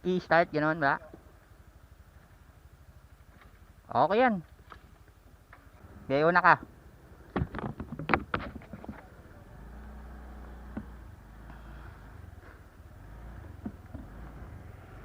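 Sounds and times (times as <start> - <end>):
motorcycle engine running: 1.0 - 15.0.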